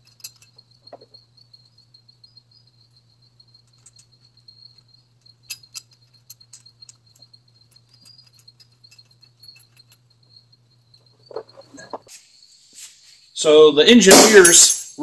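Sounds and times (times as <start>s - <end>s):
metal parts clicking and tapping: 0.0s - 12.2s.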